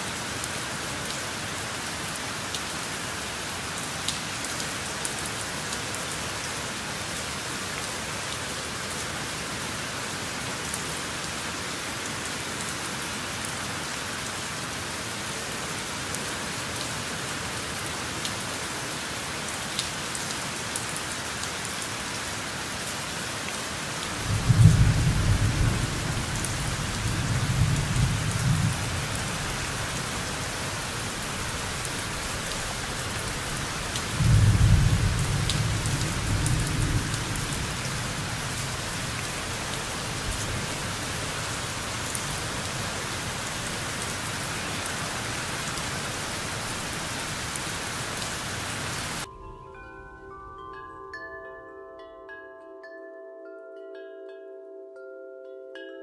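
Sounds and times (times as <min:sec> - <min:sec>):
steady rain hiss: 0:00.0 - 0:50.8.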